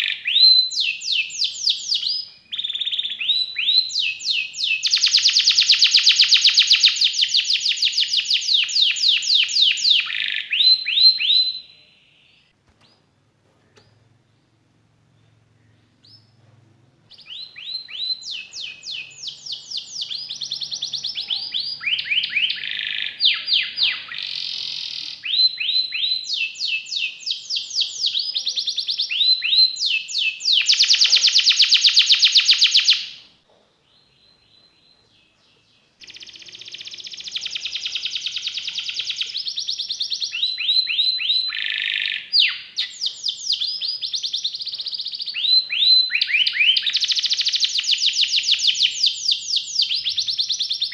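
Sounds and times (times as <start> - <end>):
canary singing: 0.0 - 13.1, 15.2 - 16.4, 17.1 - 33.3, 34.0 - 50.9.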